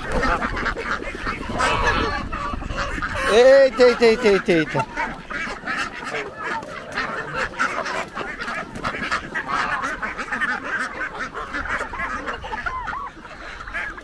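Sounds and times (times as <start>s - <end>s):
geese honking: 0.0s - 14.0s
poultry chattering calls: 0.0s - 14.0s.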